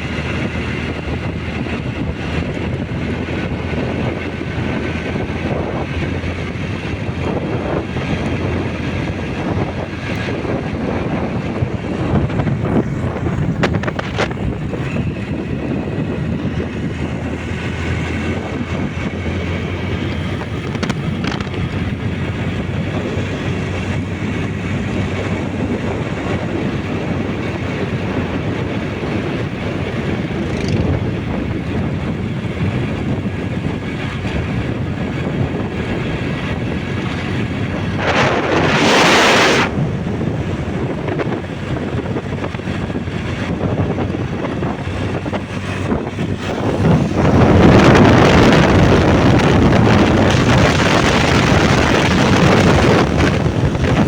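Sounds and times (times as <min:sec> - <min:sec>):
motorbike engine humming: 0:00.0 - 0:54.0
wind rushing over microphone: 0:00.0 - 0:54.0.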